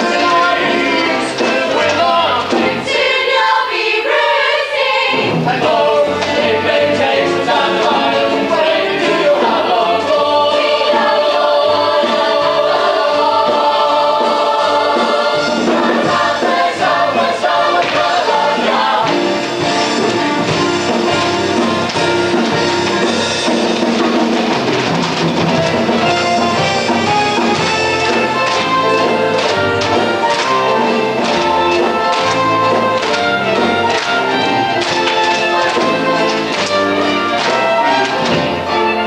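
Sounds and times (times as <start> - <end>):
ensemble singing together: 0.0 - 23.1, 26.1 - 39.0
instrumental backing: 0.0 - 39.0.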